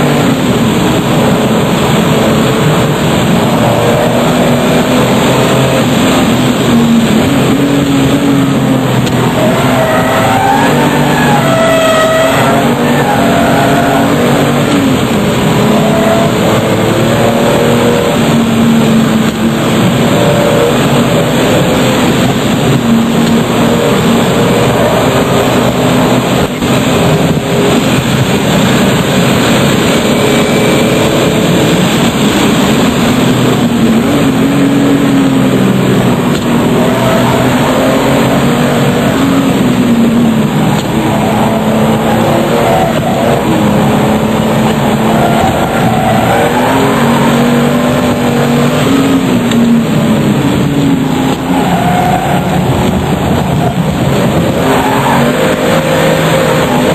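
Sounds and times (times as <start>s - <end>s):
car engine revving through gears: 0.0s - 56.9s.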